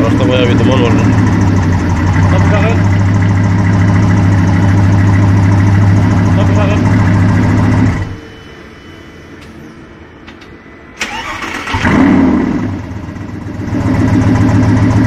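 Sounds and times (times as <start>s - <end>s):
car engine revving and idling: 0.0s - 8.2s, 11.1s - 15.0s.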